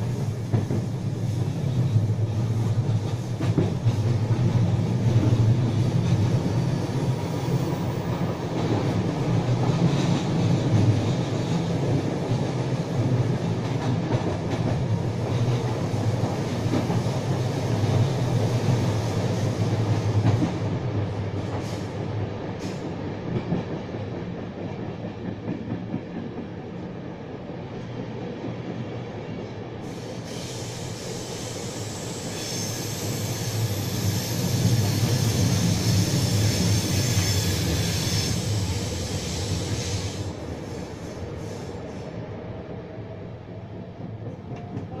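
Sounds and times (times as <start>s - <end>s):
train rolling rumble: 0.0s - 45.0s.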